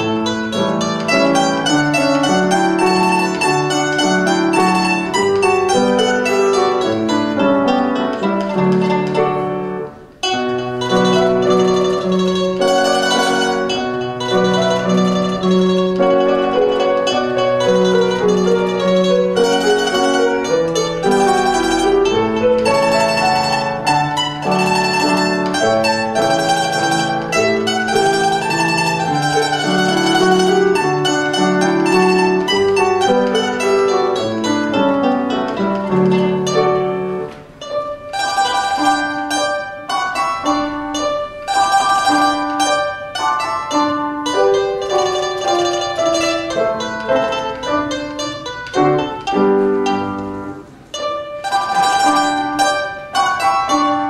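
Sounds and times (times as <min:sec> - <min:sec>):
plucked string melody: 0:00.0 - 0:54.0.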